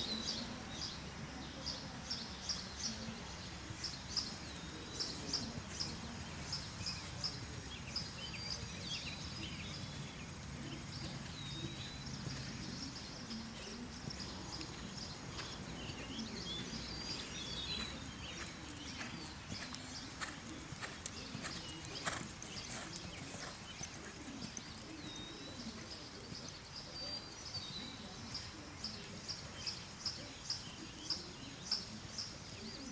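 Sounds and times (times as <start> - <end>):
small birds chirping and singing: 0.0 - 32.9.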